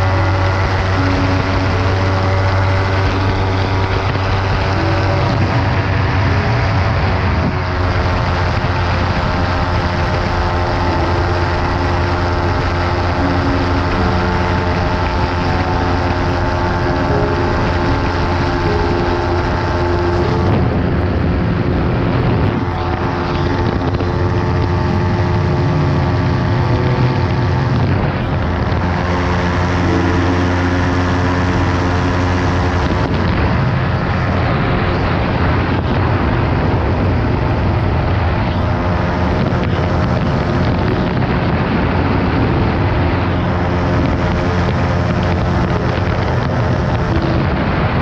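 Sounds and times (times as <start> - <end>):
light aircraft engine droning: 0.0 - 48.0
rushing air: 0.0 - 48.0.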